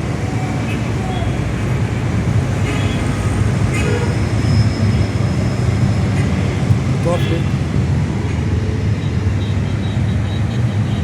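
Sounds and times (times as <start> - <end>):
diesel locomotive rumbling: 0.0 - 9.4.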